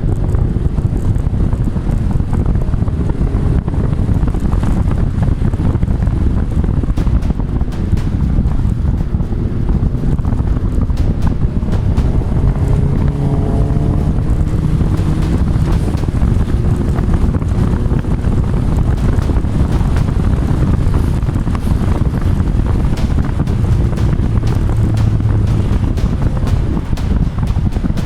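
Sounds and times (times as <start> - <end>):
car engine running: 0.0 - 28.0
wind buffeting microphone: 0.0 - 28.0.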